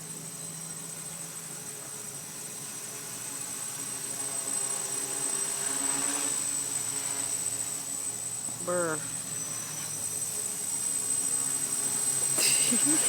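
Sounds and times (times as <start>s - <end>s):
quadcopter propellers whirring: 0.0s - 13.0s.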